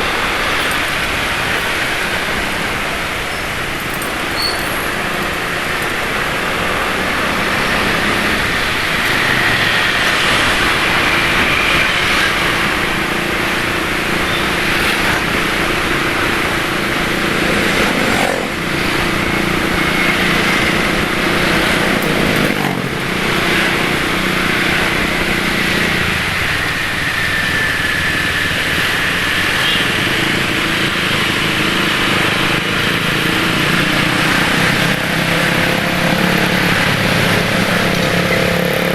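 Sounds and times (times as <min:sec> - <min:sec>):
road and wind noise: 0:00.0 - 0:38.9
rough-running motorcycle engines: 0:00.0 - 0:38.9
scooter engine drone: 0:00.0 - 0:38.9.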